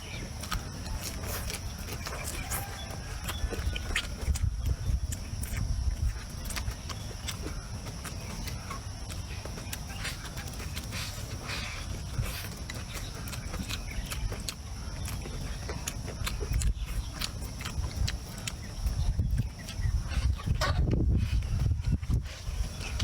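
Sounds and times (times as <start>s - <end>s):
chewing crunches: 0.0s - 23.0s.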